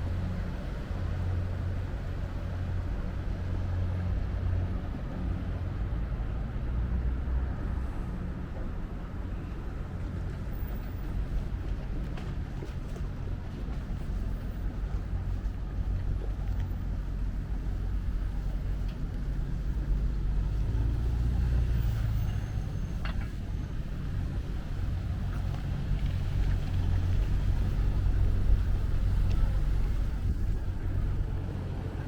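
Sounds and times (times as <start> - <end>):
low engine rumble: 0.0 - 32.0.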